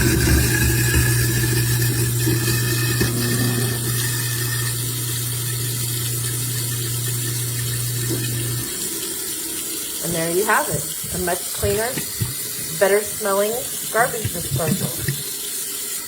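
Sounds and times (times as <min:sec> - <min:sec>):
garbage disposal grinding ice: 0:00.0 - 0:16.0
running water: 0:00.0 - 0:16.0.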